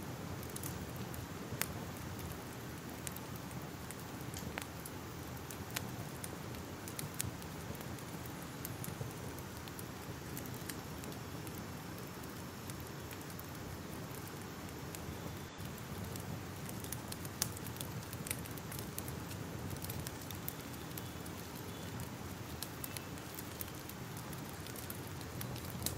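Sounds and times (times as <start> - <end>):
fire hissing: 0.0 - 25.9
fire popping and snapping: 0.1 - 25.9.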